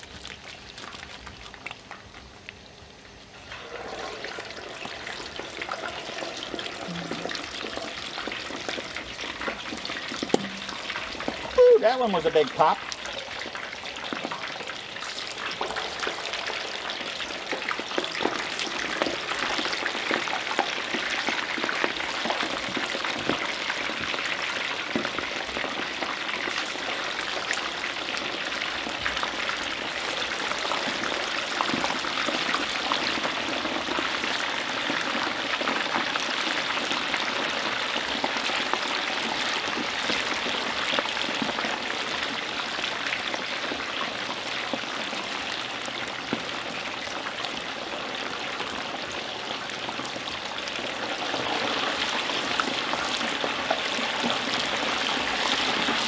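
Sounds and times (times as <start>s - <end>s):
deep-frying oil sizzling and popping: 0.0s - 56.0s.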